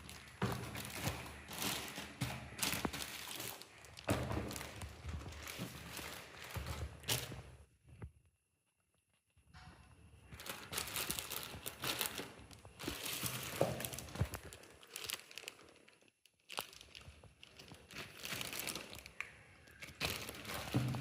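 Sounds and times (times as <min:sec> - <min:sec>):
plastic packaging crinkling: 0:00.0 - 0:07.6, 0:10.3 - 0:21.0.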